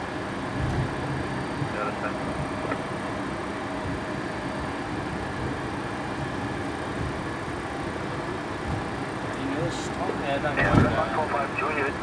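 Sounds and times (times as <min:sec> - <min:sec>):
airliner cockpit engine rush: 0:00.0 - 0:12.0.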